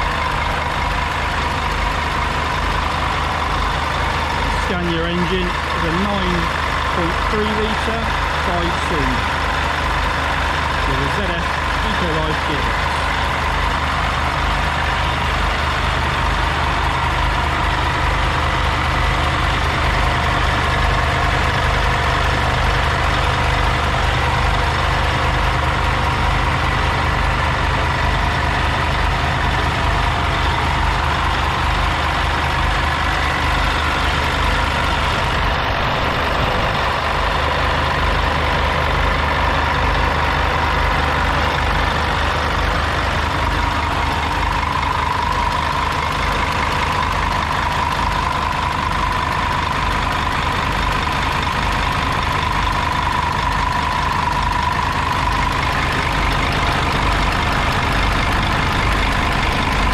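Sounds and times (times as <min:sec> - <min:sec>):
diesel bus engine idling: 0:00.0 - 0:59.9
high engine whine: 0:00.0 - 0:59.9.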